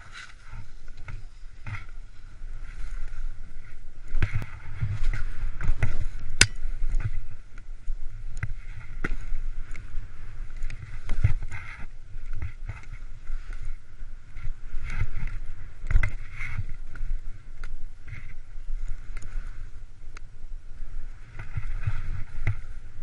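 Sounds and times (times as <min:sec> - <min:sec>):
skis swishing through powder snow: 0:00.0 - 0:23.0
wind rumbling on microphone: 0:00.0 - 0:23.0.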